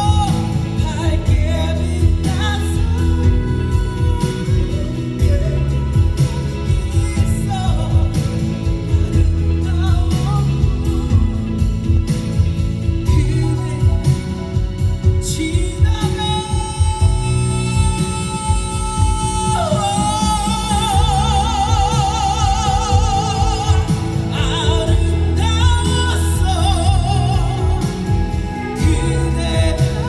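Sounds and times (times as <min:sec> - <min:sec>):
live band with bass and drums: 0:00.0 - 0:30.0
woman singing with vibrato: 0:00.0 - 0:30.0.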